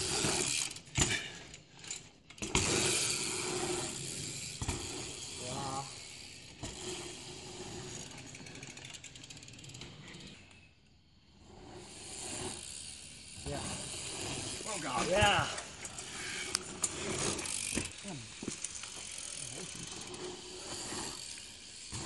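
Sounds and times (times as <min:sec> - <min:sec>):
freewheel hub clicking: 0:00.0 - 0:10.7, 0:11.8 - 0:22.0
tyres rolling over packed dirt: 0:00.0 - 0:22.0.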